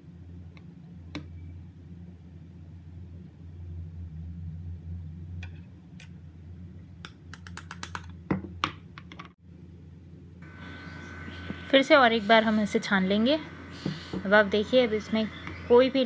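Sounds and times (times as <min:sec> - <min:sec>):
steady low hum: 0:00.0 - 0:07.5, 0:08.1 - 0:16.0.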